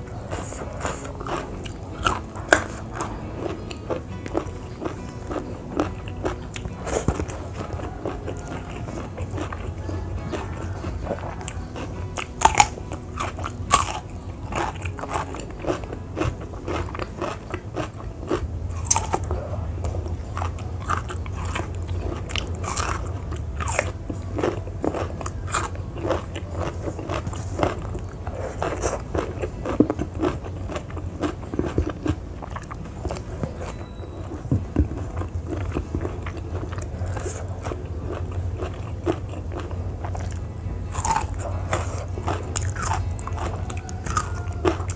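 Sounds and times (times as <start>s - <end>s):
crunching raw vegetables: 0.0s - 44.9s
low steady hum: 0.0s - 44.9s
wet chewing: 0.0s - 44.9s.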